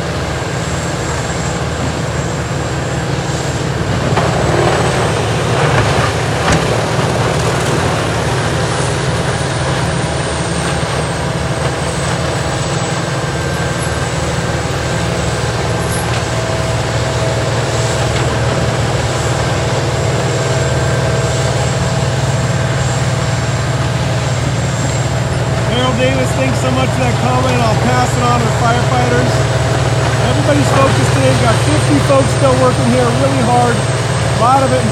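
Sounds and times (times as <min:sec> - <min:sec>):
diesel engine drone: 0:00.0 - 0:34.9
high whine: 0:00.0 - 0:34.9.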